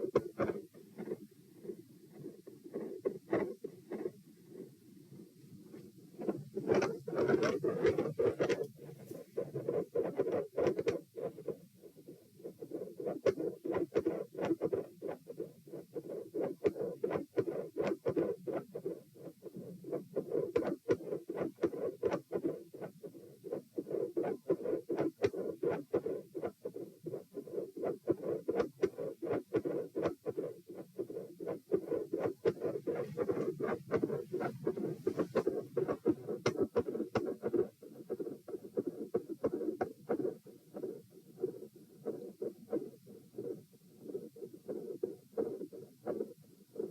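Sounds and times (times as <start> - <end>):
scratchy contact noise: 0.0 - 46.9.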